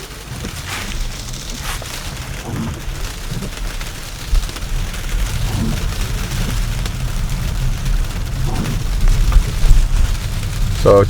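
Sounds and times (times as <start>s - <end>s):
sleet ticking on car: 0.0s - 11.0s
tyres rumbling on packed snow: 0.0s - 11.0s.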